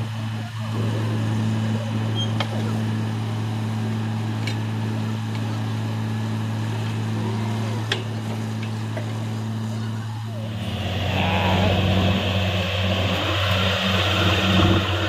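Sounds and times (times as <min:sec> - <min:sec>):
drilling rig droning: 0:00.0 - 0:15.0.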